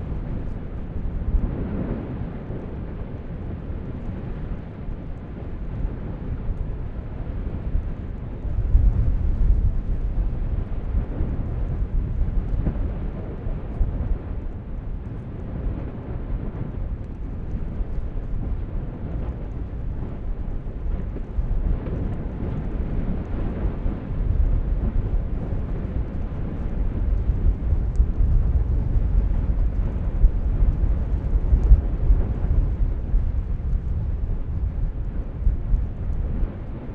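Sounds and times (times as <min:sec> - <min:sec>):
volcanic vent rumbling: 0:00.0 - 0:36.9.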